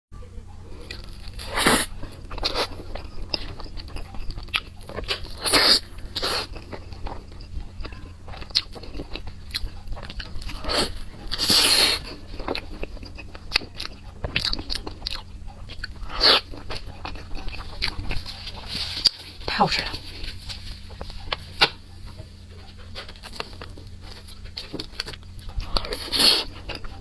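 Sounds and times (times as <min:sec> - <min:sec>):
steady low hum: 0:00.2 - 0:27.0
crunching bites of peppers: 0:00.8 - 0:19.2, 0:20.8 - 0:27.0
wet chewing clicks: 0:00.8 - 0:19.2, 0:20.8 - 0:27.0.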